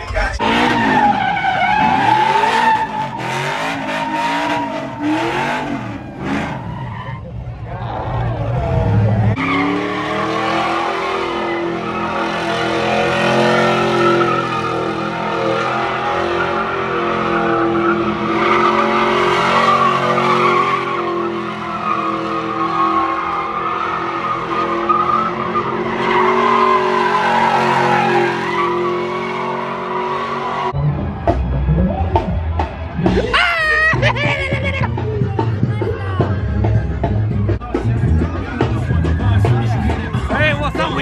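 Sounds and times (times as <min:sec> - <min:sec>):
truck engine revving high: 0:00.0 - 0:41.0.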